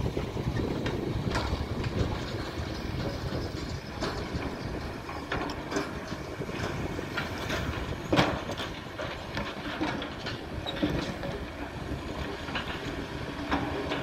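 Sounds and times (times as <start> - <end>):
dump truck engine running: 0.0 - 14.0
excavator diesel engine running: 0.0 - 14.0.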